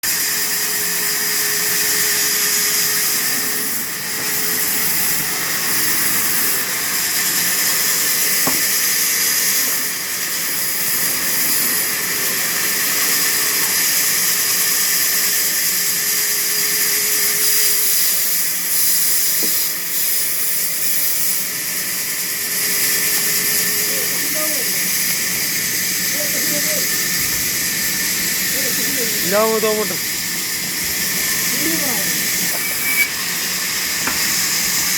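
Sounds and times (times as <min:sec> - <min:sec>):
sawmill saw running: 0:00.0 - 0:34.9.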